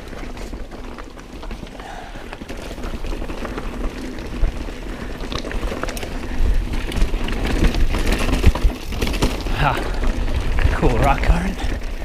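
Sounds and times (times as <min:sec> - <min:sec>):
bike tyres knocking on rocks: 0:00.0 - 0:12.0.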